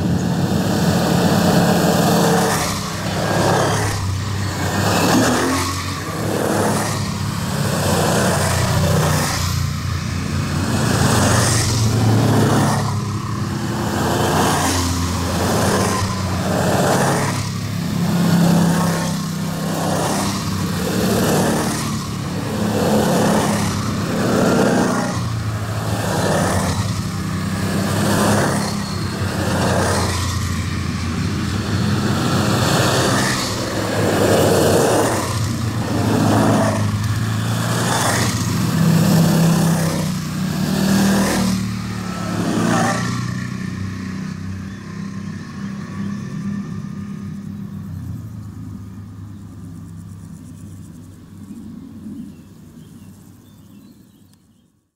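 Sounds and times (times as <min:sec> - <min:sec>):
quad bikes driving past: 0:00.0 - 0:53.6.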